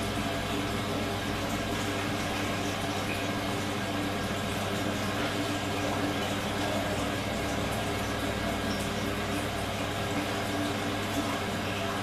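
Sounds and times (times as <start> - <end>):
washing machine running: 0.0 - 12.0.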